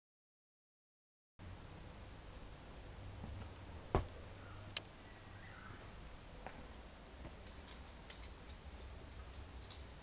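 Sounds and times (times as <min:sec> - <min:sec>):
faint hiss with low hum: 0:01.4 - 0:10.0.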